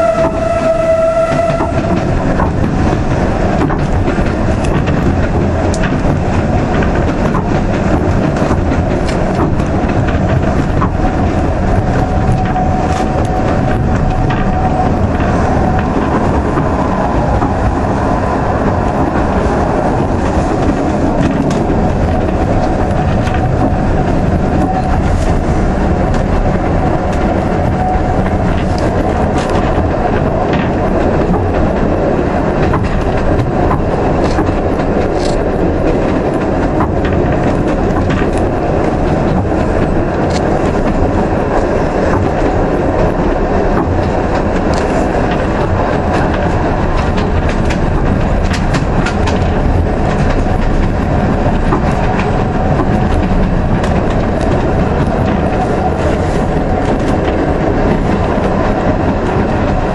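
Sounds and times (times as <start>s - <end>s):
train wheels rumbling and rattling: 0.0s - 59.9s.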